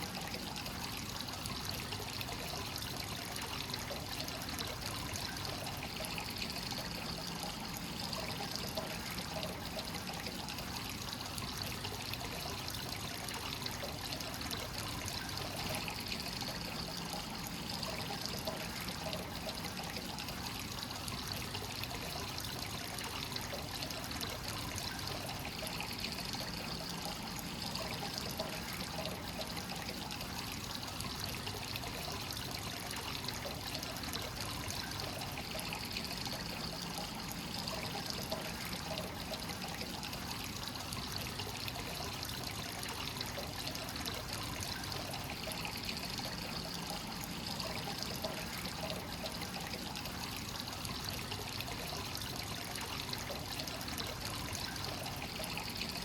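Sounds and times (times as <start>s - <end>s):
water pouring into a bath: 0.0s - 56.0s.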